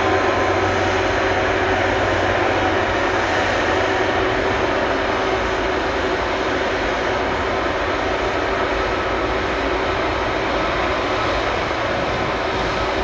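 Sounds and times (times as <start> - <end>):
jet engines running at low power: 0.0 - 13.0.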